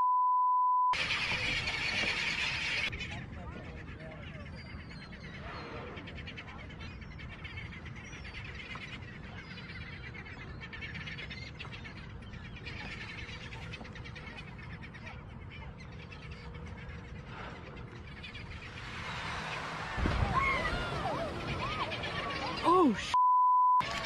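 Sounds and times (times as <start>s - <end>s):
many birds chattering: 1.0s - 23.2s.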